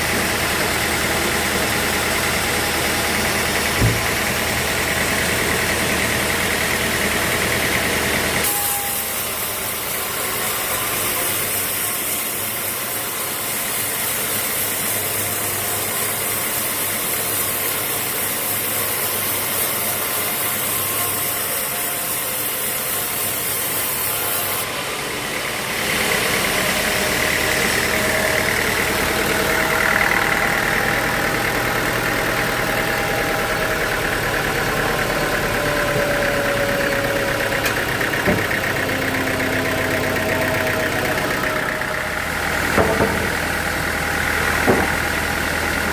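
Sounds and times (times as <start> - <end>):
sawmill motor hum: 0.0 - 45.9.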